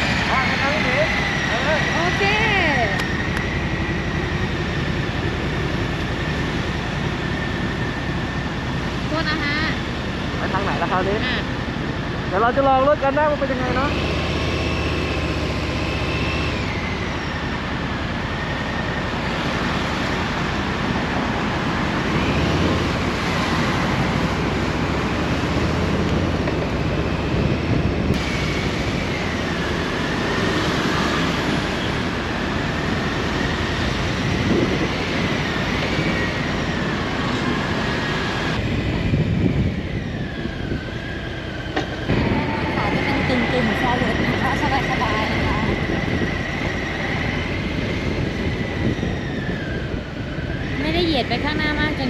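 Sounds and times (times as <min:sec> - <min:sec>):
wind and road noise: 0:00.0 - 0:52.0.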